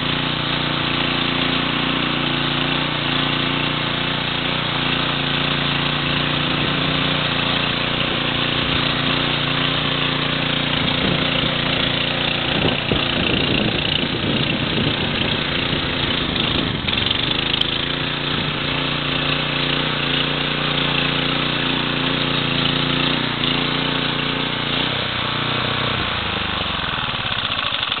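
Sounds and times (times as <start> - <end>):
garden tiller engine under load: 0.0 - 28.0
tines churning soil: 0.0 - 28.0.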